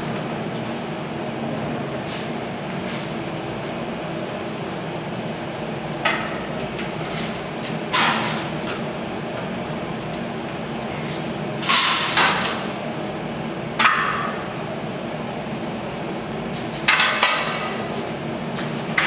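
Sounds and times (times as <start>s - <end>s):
low workshop hum: 0.0s - 19.0s.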